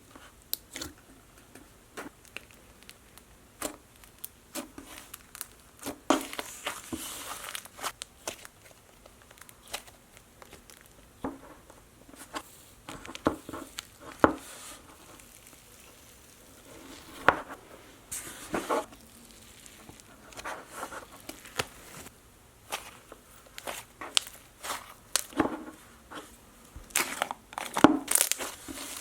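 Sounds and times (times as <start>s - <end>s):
plastic crinkling and rustling: 0.7s - 29.0s.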